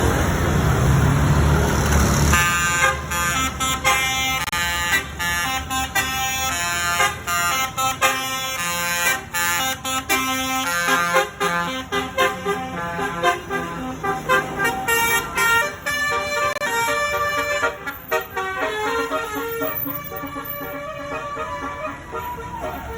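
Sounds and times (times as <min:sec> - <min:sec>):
bus engine and road rumble: 0:00.0 - 0:22.9
bus horn playing a tune: 0:02.1 - 0:22.9.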